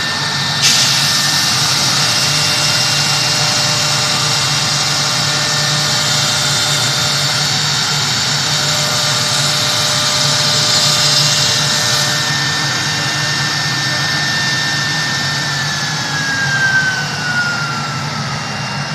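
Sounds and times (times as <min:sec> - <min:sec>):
cnc router running: 0:00.0 - 0:18.9
high whine dropping in pitch: 0:00.0 - 0:18.9.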